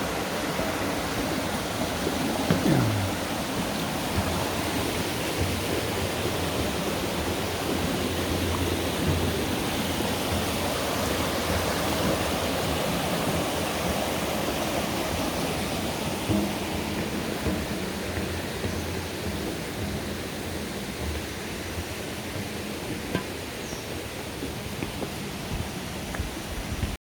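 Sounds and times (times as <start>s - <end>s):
stream running: 0.0s - 27.0s.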